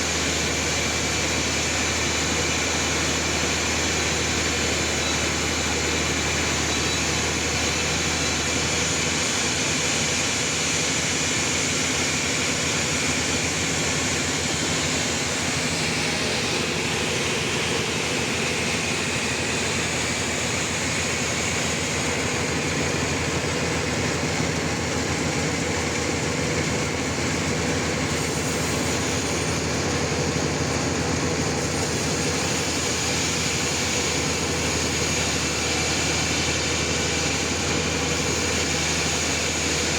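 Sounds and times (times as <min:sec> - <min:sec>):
sawmill sawing log: 0:00.0 - 0:39.9.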